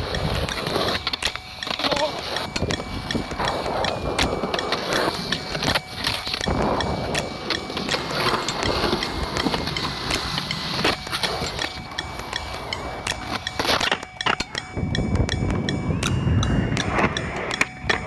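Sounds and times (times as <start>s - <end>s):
skateboard clacks and knocks: 0.0s - 18.0s
skateboard wheels rolling on concrete: 0.0s - 18.0s.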